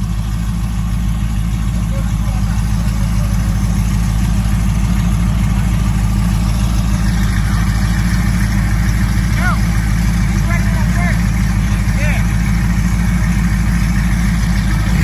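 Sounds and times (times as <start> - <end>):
engines idling with deep rumble: 0.0 - 15.0.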